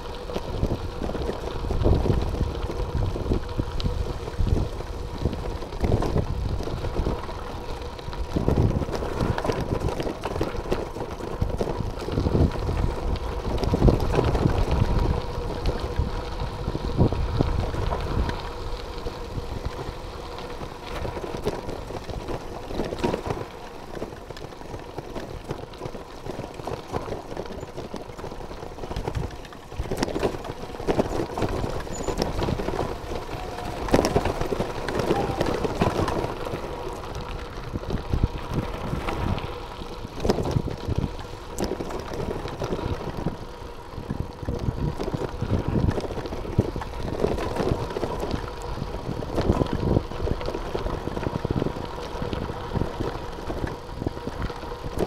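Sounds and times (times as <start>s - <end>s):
bicycle rattling over bumps: 0.0s - 55.0s
tyres crunching on gravel: 0.0s - 55.0s.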